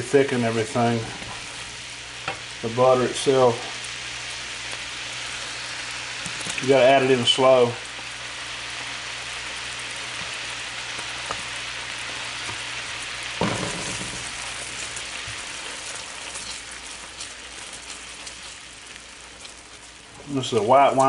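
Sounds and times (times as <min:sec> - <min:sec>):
sauce sizzling in a pan: 0:00.0 - 0:21.0.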